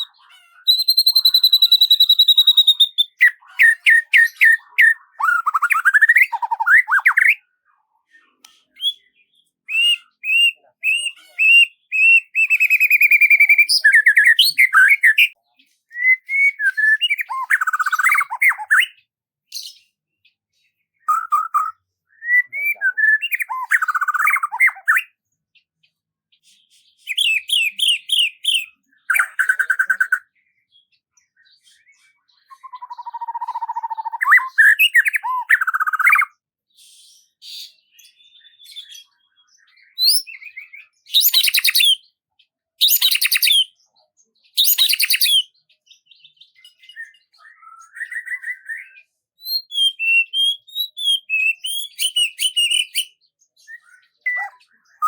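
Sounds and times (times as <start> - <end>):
songbird singing and trilling: 0.0 - 55.0.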